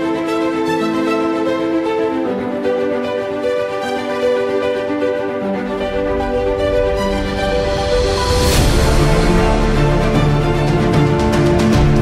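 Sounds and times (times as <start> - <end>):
background theme music: 0.0 - 12.0.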